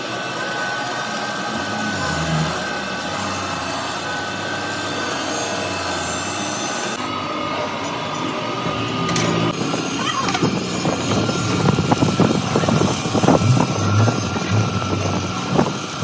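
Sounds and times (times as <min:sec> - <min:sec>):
electric arc welding: 0:00.0 - 0:07.0, 0:09.5 - 0:16.0.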